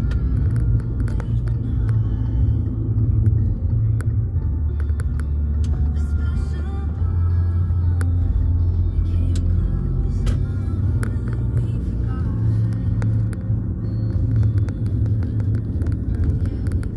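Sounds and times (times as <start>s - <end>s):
car road rumble inside cabin: 0.0s - 16.9s
faint music: 0.0s - 16.9s.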